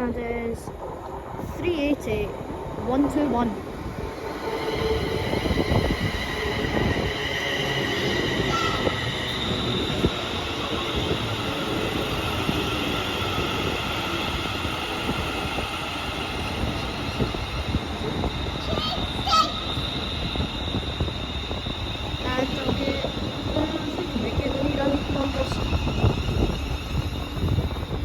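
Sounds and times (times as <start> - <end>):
train high whine: 0.0 - 28.0.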